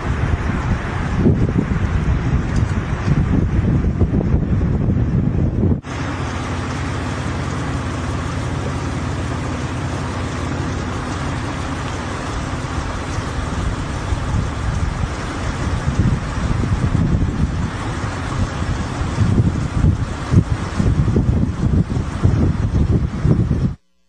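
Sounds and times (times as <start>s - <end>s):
wind buffeting microphone: 0.0s - 23.8s
wind rushing: 0.0s - 23.8s.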